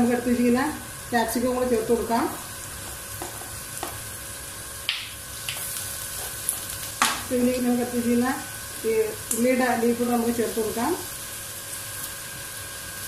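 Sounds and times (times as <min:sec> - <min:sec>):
vegetables frying in oil: 0:00.0 - 0:13.0.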